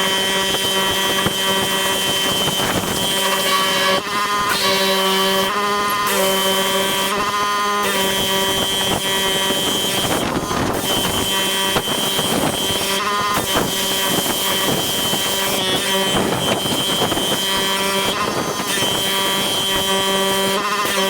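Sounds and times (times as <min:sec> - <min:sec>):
pressure washer motor: 0:00.0 - 0:21.0.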